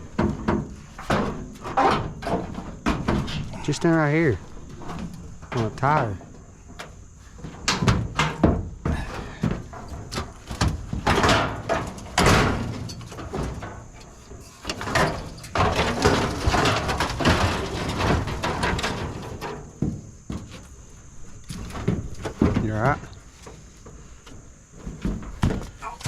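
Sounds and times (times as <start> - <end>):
scrap metal clanking and scraping: 0.0 - 26.0.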